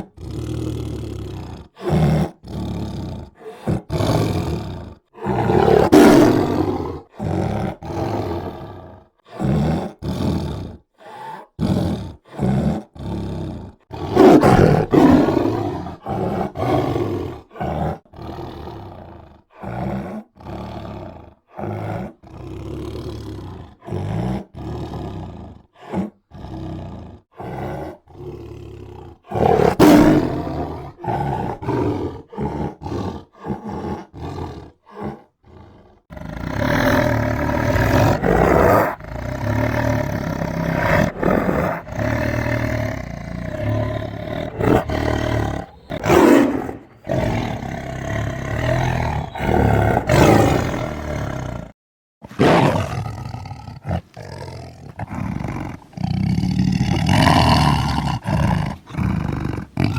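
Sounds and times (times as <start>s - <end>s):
tiger roaring: 0.0s - 59.9s.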